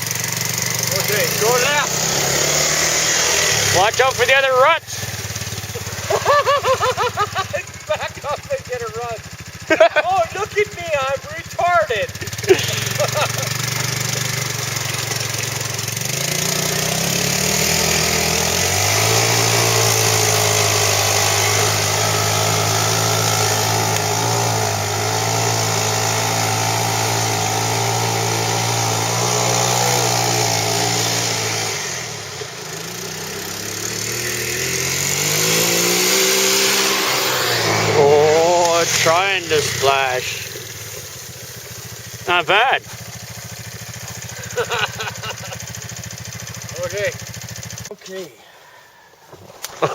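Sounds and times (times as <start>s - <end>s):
engine revving: 0.0s - 48.3s.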